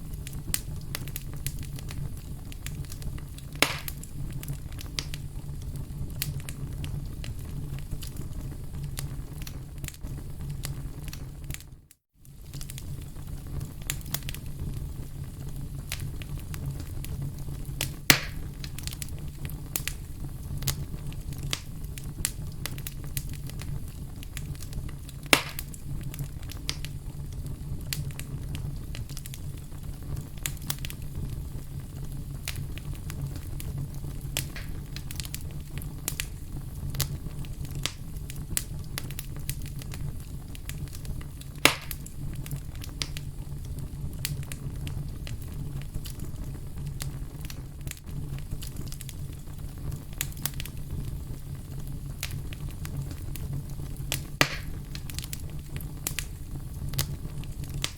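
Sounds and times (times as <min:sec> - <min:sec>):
burning logs popping: 0:00.0 - 0:57.9
fire rumbling and crackling: 0:00.0 - 0:57.9.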